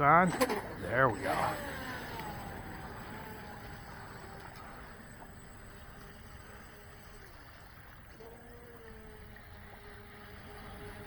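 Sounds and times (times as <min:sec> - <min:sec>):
electric motor whine: 0:00.0 - 0:11.0
wind and water hiss: 0:00.0 - 0:11.0.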